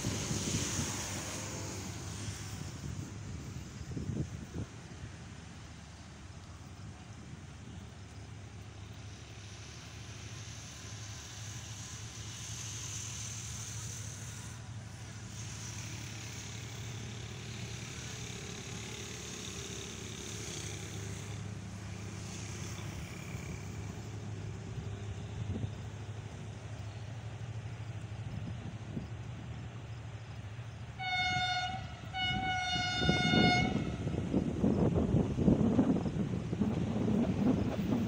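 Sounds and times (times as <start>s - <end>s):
locomotive diesel engine humming: 0.0s - 38.0s.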